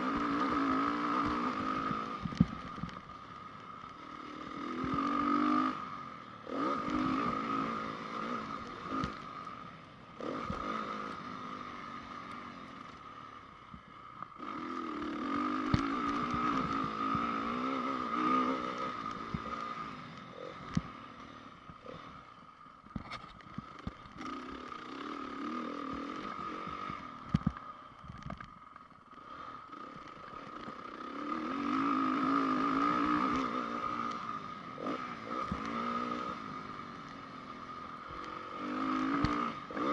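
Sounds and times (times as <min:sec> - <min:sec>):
motocross bike engine revving: 0:00.0 - 0:02.8, 0:03.7 - 0:13.4, 0:14.4 - 0:22.3, 0:23.6 - 0:27.2, 0:29.1 - 0:39.9.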